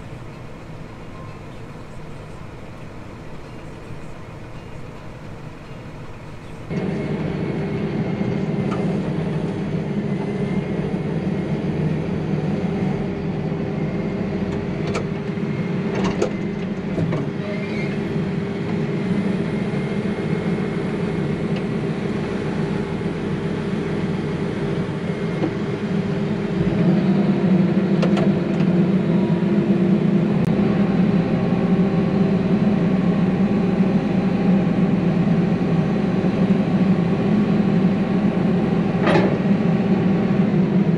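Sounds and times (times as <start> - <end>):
tractor engine drone: 0.0 - 40.9.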